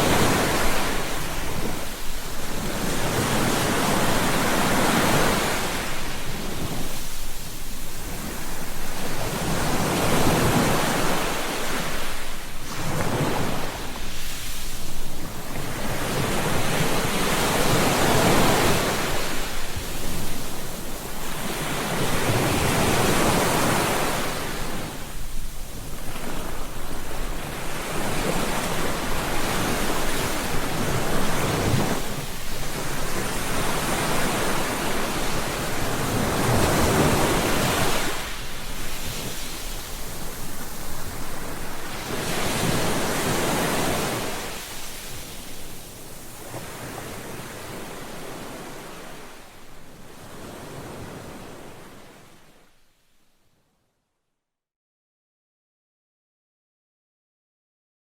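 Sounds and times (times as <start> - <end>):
ocean waves breaking on beach: 0.0 - 52.7.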